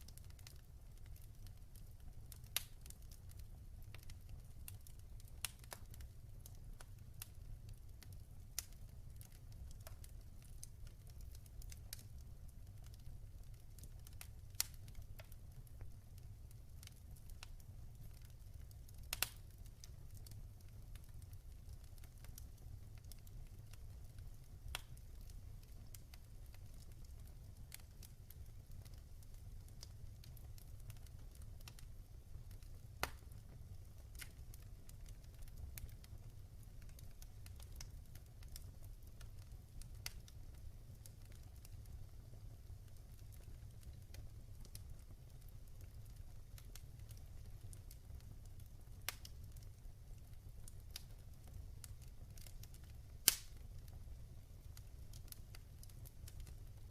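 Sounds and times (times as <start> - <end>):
low rumble of flames: 0.0 - 56.9
wood fire popping: 0.0 - 56.9.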